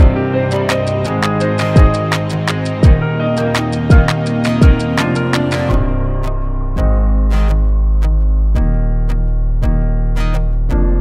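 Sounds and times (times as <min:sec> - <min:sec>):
plucked guitar: 0:00.0 - 0:11.0
steady bass: 0:00.0 - 0:11.0.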